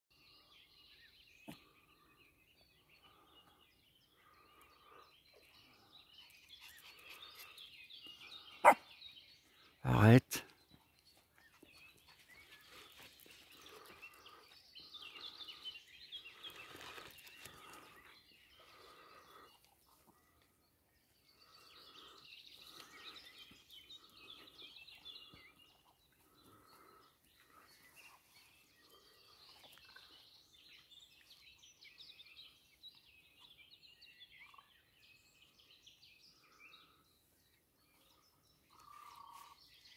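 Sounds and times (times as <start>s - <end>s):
bird chirping: 0.2s - 39.9s.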